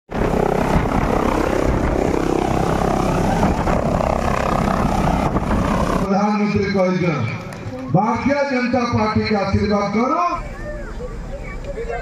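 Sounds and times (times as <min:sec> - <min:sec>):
helicopter flying overhead: 0:00.1 - 0:12.0.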